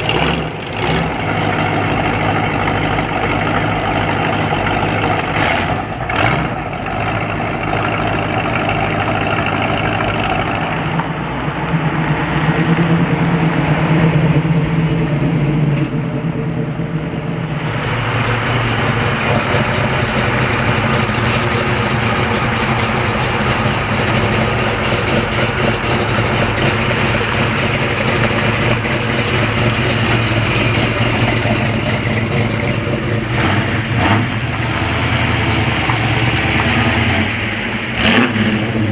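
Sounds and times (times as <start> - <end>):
car engines idling: 0.0 - 38.9.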